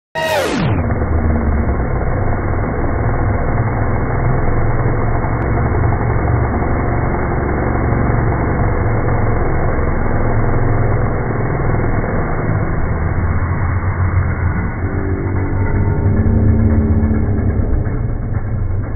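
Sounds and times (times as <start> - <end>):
chainsaw engine running: 0.2 - 18.9.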